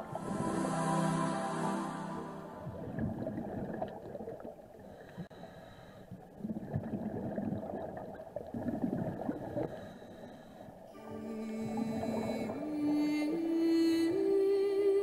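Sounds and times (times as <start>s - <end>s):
underwater swishing and gurgling: 0.0s - 14.0s.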